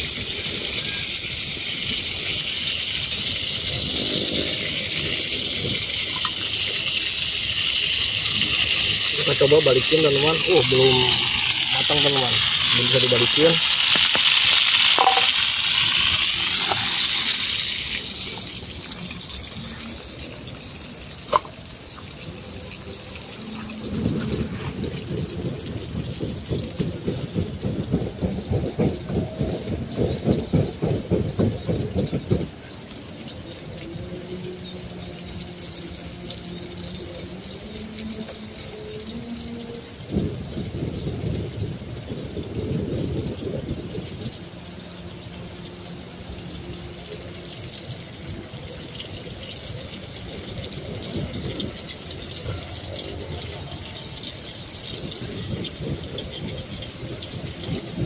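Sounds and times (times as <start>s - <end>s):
food sizzling in hot oil: 0.0s - 58.0s
birds chirping: 2.9s - 58.0s.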